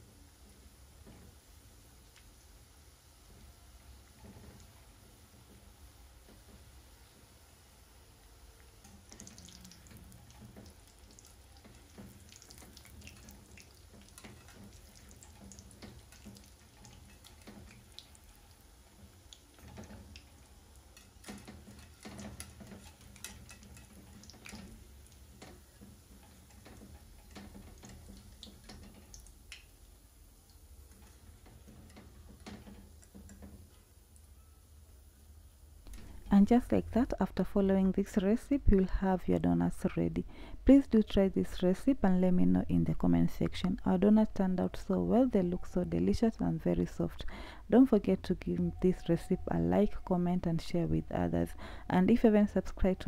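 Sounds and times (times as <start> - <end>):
oil crackling and sizzling: 0.0 - 53.0.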